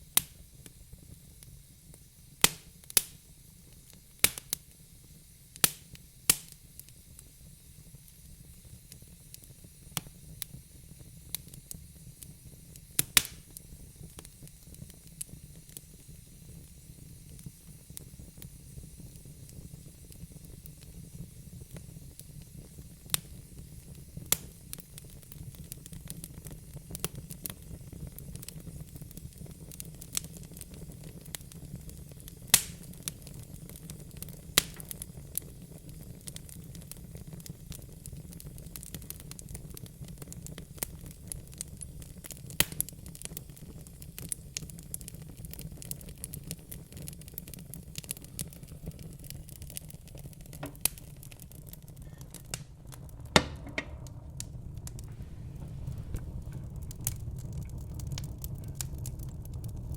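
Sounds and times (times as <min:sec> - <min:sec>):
low fire rumble: 0:00.0 - 0:59.9
wood fire crackling: 0:00.0 - 0:59.9
fire popping: 0:00.1 - 0:59.9.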